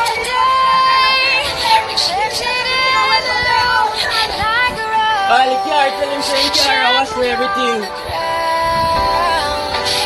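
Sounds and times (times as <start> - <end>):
soft backing music: 0.0 - 10.0
woman singing: 0.0 - 10.0.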